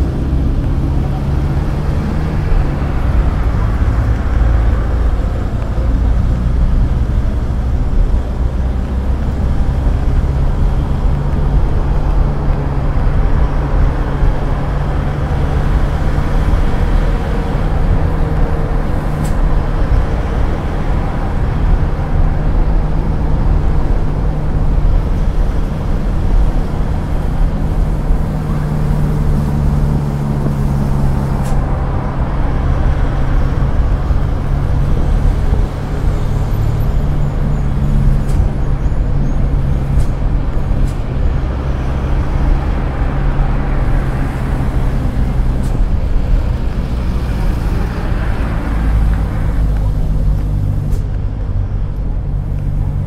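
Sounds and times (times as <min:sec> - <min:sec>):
car engine and road noise: 0:00.0 - 0:53.0
passing traffic: 0:00.0 - 0:53.0.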